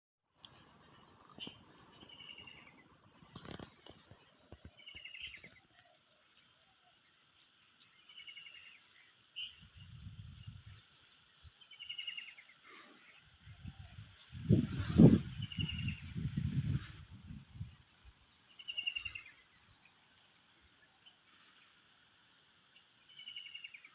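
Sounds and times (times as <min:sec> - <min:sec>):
high-pitched insect buzz: 0:00.5 - 0:12.6, 0:13.4 - 0:23.9.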